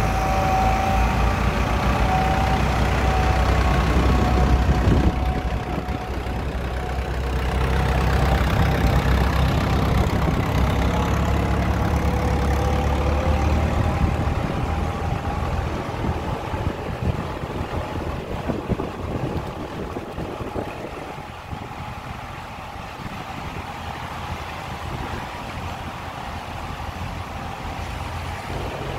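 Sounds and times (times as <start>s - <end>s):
car passing: 0.0s - 28.9s
tractor diesel engine passing: 0.0s - 28.9s.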